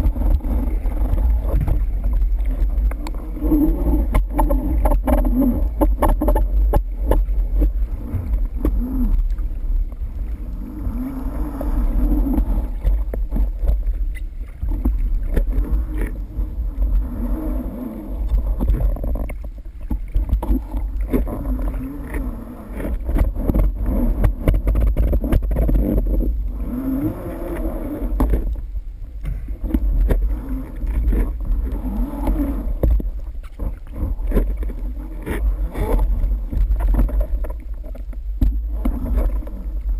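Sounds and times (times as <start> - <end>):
low wavering hum: 0.0 - 39.9
muffled underwater rumble: 0.0 - 39.9.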